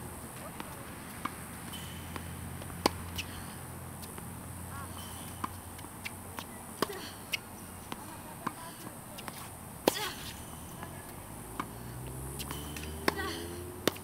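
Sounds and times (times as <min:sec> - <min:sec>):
tennis balls bouncing on court: 0:00.0 - 0:14.0
tennis balls struck with rackets: 0:00.0 - 0:14.0.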